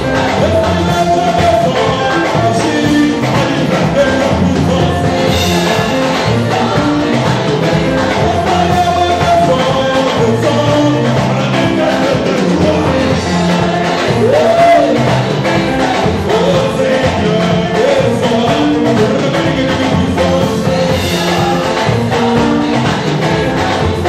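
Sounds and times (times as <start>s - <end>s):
drums: 0.0s - 24.0s
group of singers: 0.0s - 24.0s
keyboard: 0.0s - 24.0s.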